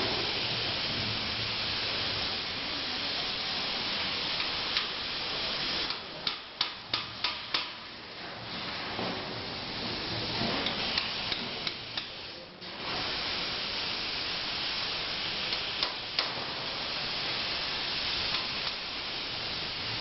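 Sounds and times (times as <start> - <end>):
plasma cutter hissing: 0.0 - 7.9, 9.2 - 20.0.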